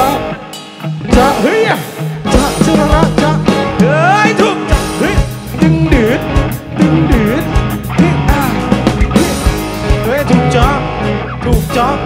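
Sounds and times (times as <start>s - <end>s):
drum kit beat: 0.0s - 12.0s
electric guitar: 0.0s - 12.0s
man singing: 0.0s - 12.0s.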